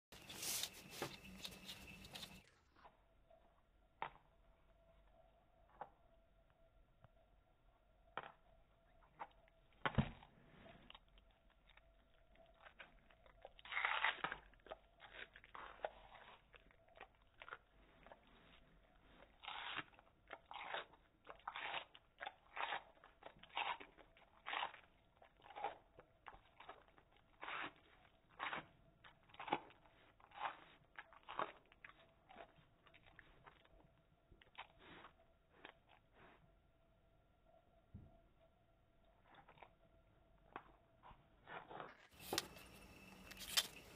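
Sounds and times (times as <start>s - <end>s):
skunk crunching bell pepper: 0.1s - 3.0s, 8.0s - 36.6s, 39.0s - 43.9s.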